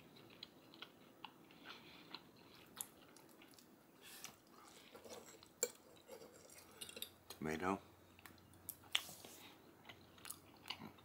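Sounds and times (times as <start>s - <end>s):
chewing food: 0.0s - 7.2s, 8.2s - 11.0s.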